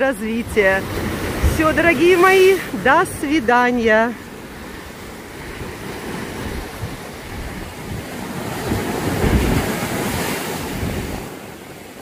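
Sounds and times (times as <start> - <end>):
wind buffeting microphone: 0.0 - 12.0
surf breaking over rocks: 0.1 - 12.0.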